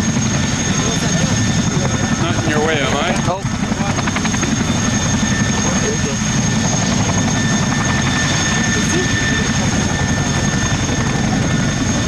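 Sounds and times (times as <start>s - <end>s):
aircraft engines pulsing rumble: 0.0s - 12.0s.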